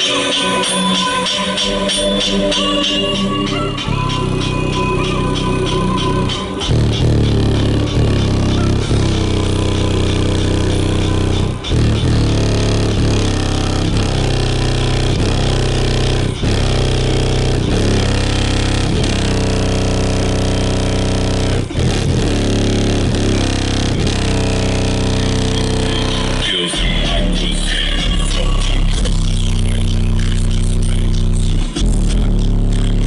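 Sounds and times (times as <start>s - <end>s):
loud bass-heavy music: 0.0s - 33.0s.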